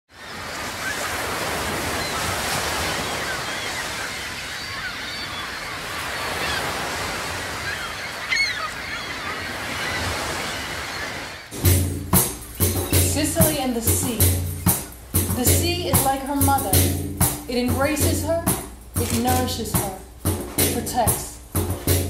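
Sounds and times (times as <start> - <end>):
birds chirping: 0.1 - 22.0
sea waves washing: 0.1 - 22.0.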